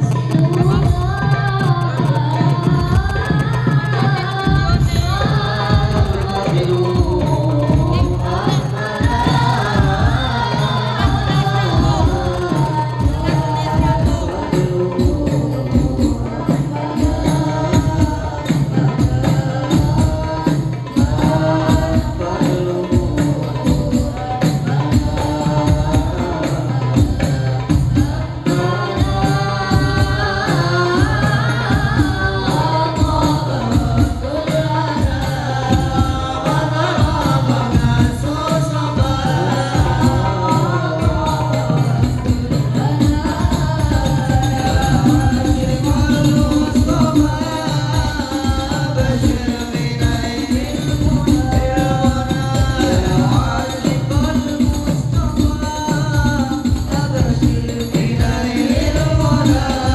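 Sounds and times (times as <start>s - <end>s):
frame drums with jingles: 0.0s - 59.9s
voices singing devotional song: 0.0s - 59.9s.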